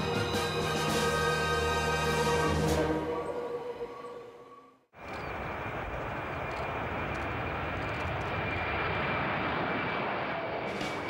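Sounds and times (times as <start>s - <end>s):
jet airliner passing overhead: 0.0s - 11.0s.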